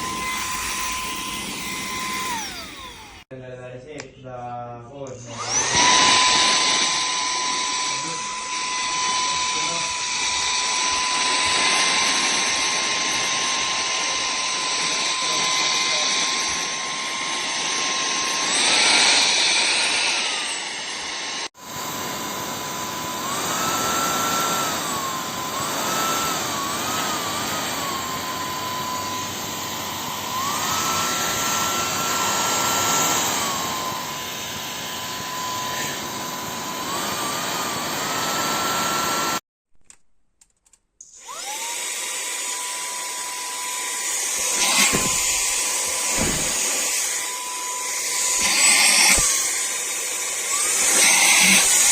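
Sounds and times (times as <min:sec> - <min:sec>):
handheld vacuum cleaner whine: 0:00.0 - 0:03.3, 0:05.2 - 0:39.4, 0:41.0 - 0:51.9.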